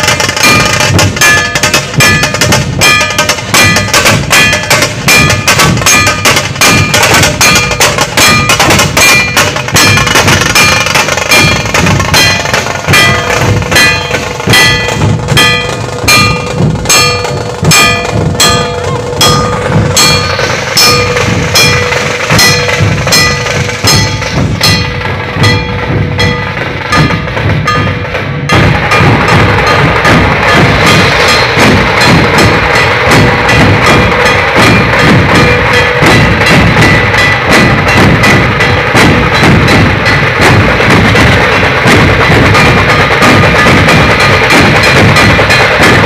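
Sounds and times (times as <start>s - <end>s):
barrel drums beaten fast: 0.0s - 46.0s
ringing metallic strokes: 0.0s - 46.0s.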